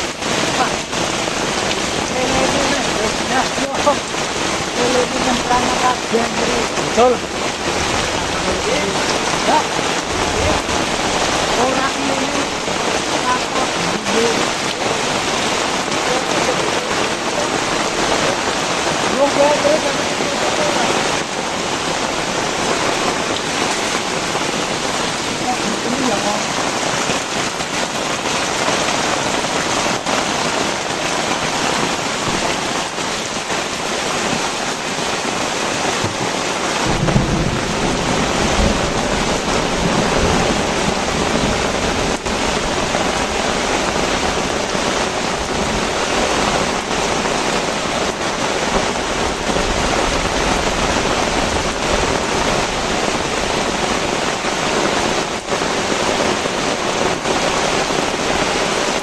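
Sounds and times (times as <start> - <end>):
thunder rumbling: 0.0 - 30.6, 35.2 - 59.0
heavy rain pouring: 0.0 - 59.0.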